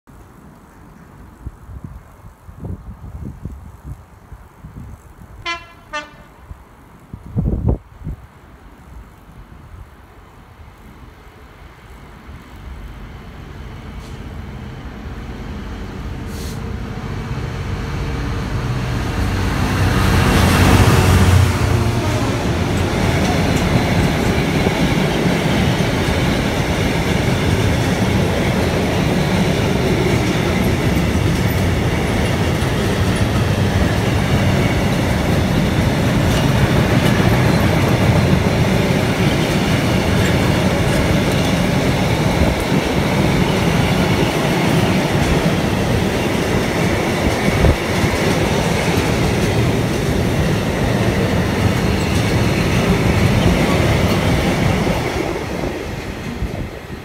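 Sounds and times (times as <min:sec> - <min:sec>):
train wheels running on rails: 0:10.6 - 0:57.0.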